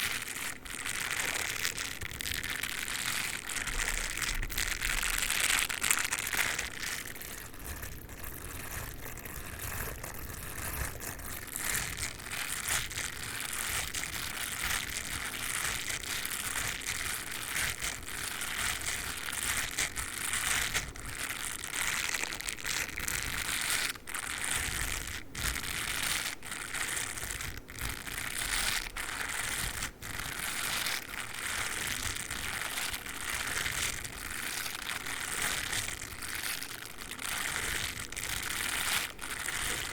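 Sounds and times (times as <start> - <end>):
toothbrush scratching a microphone: 0.0 - 39.9.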